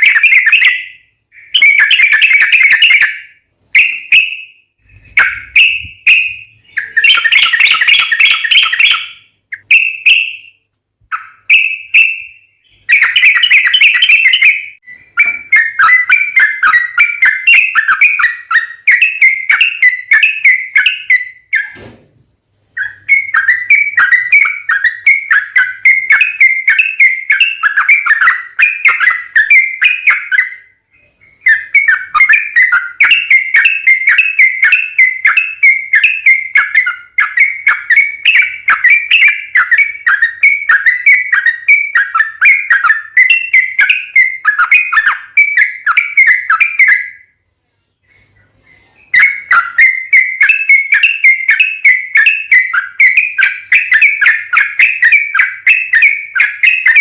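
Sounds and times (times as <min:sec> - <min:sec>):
bird song with chattering notes: 0:00.0 - 0:57.0.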